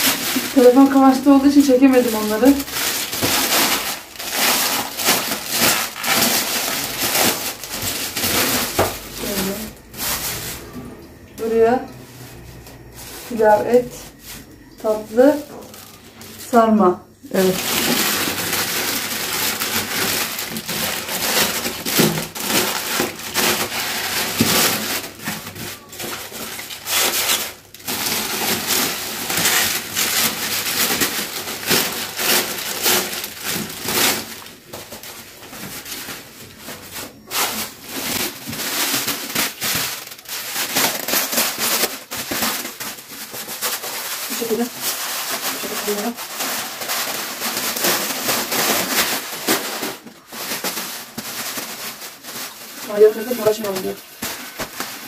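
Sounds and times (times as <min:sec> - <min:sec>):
plastic bags rustling and crinkling: 0:00.0 - 0:55.0.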